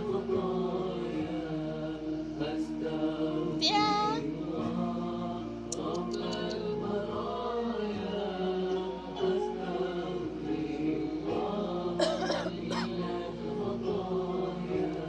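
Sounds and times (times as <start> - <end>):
person singing long chant-like notes: 0.0 - 15.0.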